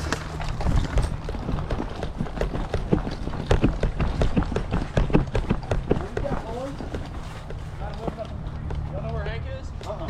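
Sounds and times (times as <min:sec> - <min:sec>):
running footsteps: 0:00.0 - 0:10.0.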